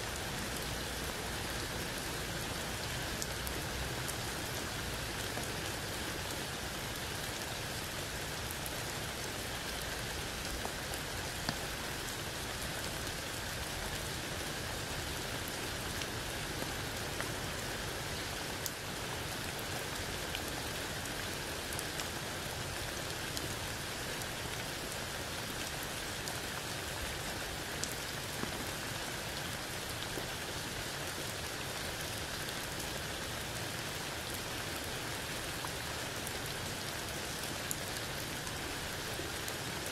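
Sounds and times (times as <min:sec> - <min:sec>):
rain falling through leaves: 0:00.0 - 0:39.9.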